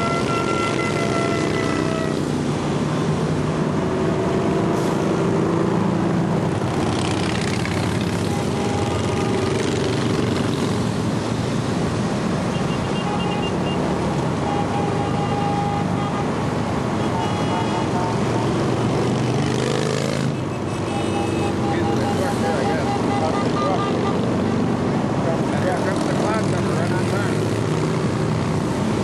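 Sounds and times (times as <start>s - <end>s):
motorcycles and traffic passing: 0.0s - 29.0s.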